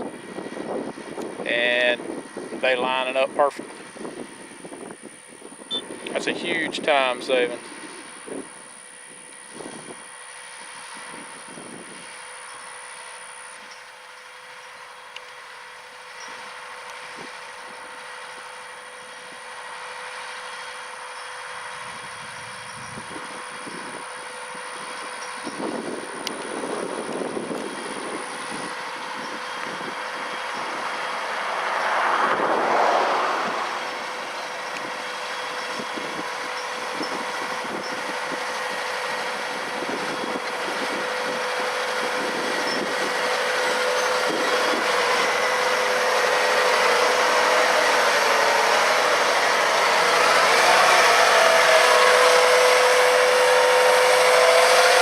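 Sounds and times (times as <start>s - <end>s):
tractor engine running with whine: 0.0s - 55.0s.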